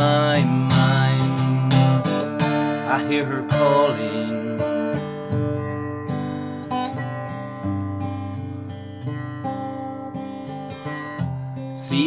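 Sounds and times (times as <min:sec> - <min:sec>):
acoustic guitar strummed slowly: 0:00.0 - 0:12.0.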